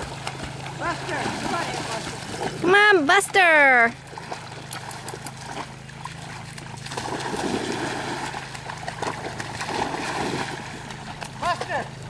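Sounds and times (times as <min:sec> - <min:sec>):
water splashing from swimming dogs: 0:00.0 - 0:12.0.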